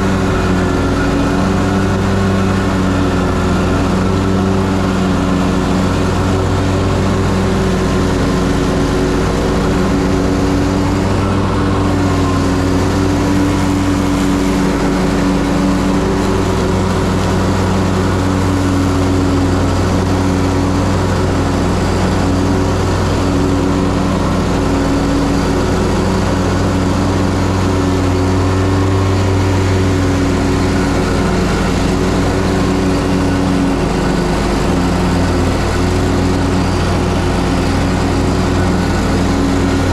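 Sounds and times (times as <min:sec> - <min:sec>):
mower engine droning: 0:00.0 - 0:39.9.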